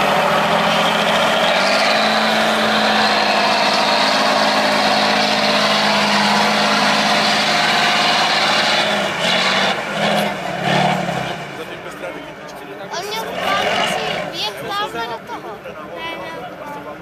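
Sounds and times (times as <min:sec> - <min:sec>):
truck diesel engine under load: 0:00.0 - 0:17.0.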